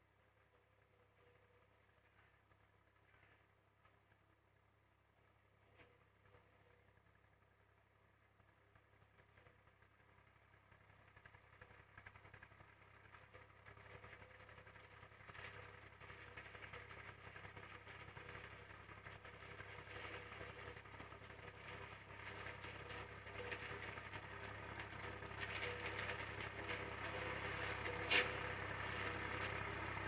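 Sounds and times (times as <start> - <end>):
tractor diesel engine running: 0.0 - 30.0
corn harvester working: 5.6 - 30.0.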